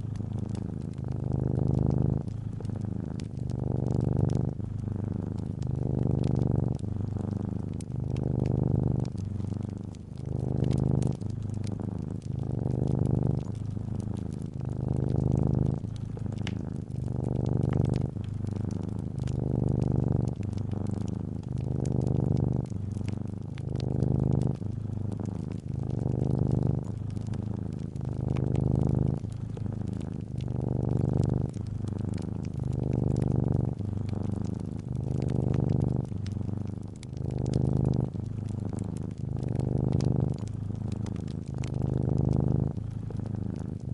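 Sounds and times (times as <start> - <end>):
cat purring: 0.0 - 43.9
faint wood fire crackling: 0.0 - 43.9.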